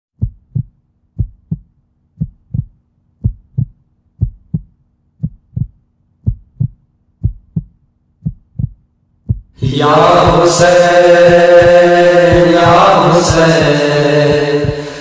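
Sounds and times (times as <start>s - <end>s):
heartbeat thumps: 0.2s - 15.0s.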